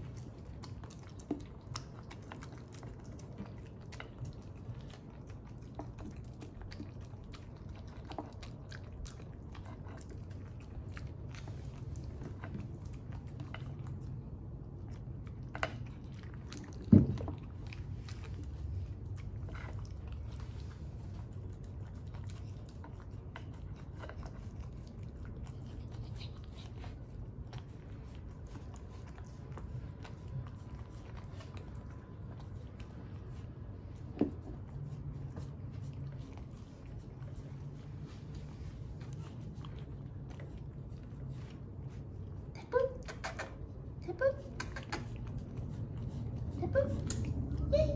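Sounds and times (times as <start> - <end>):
dog chewing food on wooden tray: 0.0 - 42.1.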